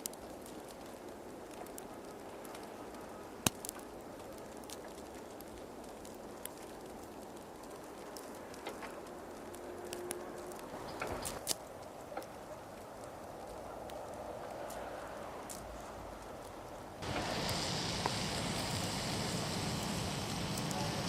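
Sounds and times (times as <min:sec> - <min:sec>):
snowstorm hiss: 0:00.0 - 0:21.0.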